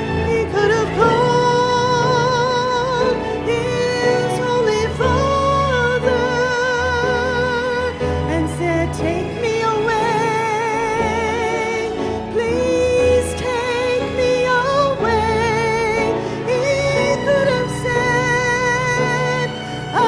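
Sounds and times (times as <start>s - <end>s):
person singing hymn with vibrato: 0.0s - 20.0s.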